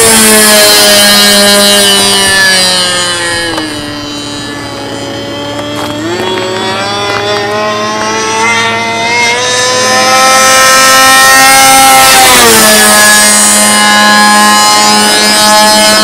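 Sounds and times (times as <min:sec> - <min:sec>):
model plane engine running: 0:00.0 - 0:16.0.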